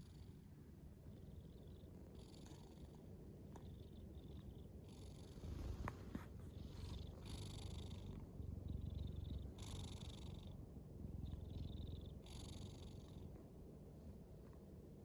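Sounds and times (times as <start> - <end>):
cat snoring: 1.1 - 13.4.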